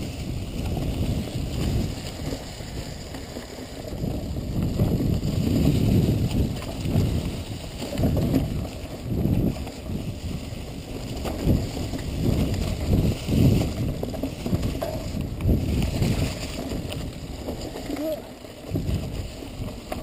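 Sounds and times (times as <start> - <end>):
bike tyres rumbling on dirt: 0.0 - 20.0
wind buffeting microphone: 0.0 - 20.0.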